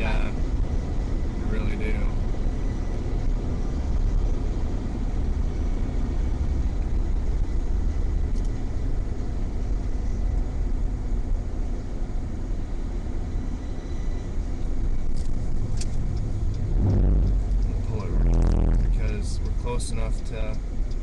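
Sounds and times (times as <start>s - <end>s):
car interior road and engine rumble: 0.0s - 21.0s.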